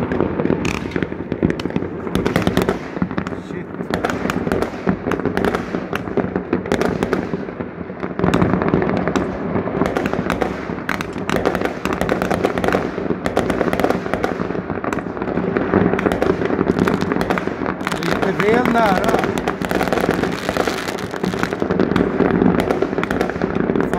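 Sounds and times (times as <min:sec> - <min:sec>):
fireworks bangs and crackling: 0:00.0 - 0:23.9.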